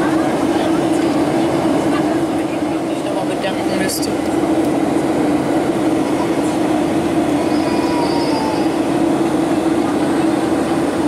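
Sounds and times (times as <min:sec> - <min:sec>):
jet airliner cabin hum: 0:00.0 - 0:11.0.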